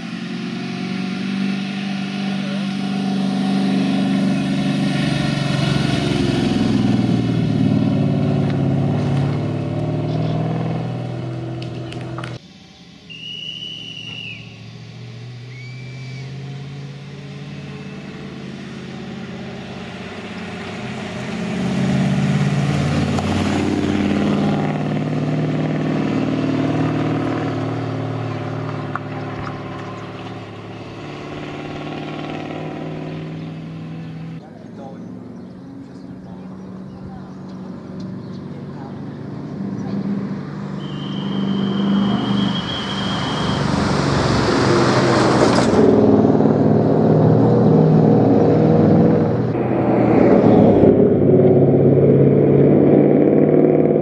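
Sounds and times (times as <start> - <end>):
rally car engine revving past: 0.0 - 12.4, 14.4 - 54.0.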